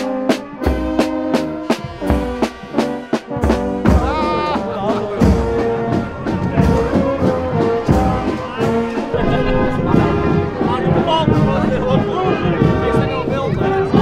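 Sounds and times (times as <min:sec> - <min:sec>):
brass band music with drums: 0:00.0 - 0:14.0.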